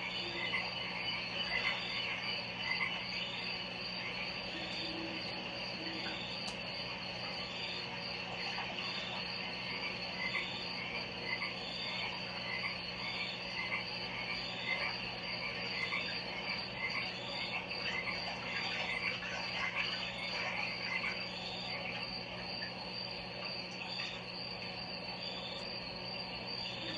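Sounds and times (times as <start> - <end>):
frogs croaking: 0.0 - 26.9.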